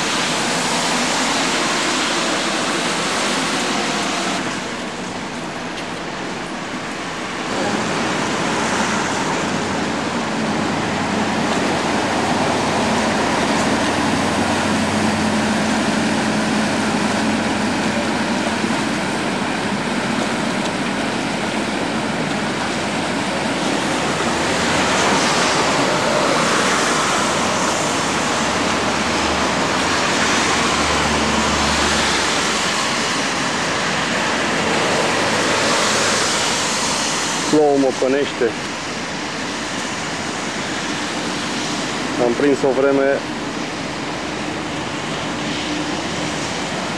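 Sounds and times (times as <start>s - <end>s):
city traffic: 0.0s - 46.9s
rain: 0.0s - 46.9s.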